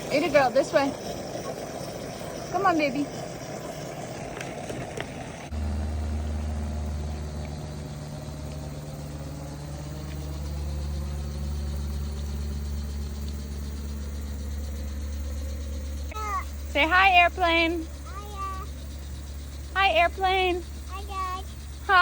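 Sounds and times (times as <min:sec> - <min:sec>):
airplane engine drone: 0:00.0 - 0:22.0.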